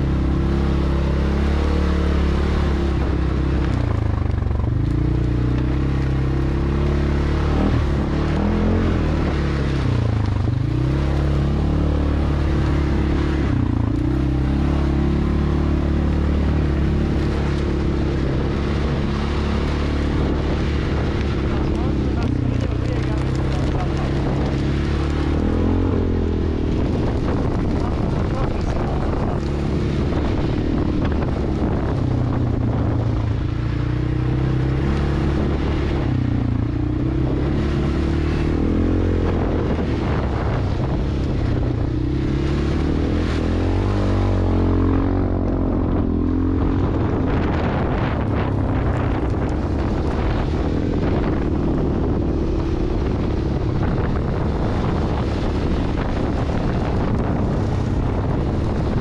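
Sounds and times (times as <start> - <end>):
engine revving under load: 0.0 - 59.0
wind buffeting microphone: 0.0 - 59.0.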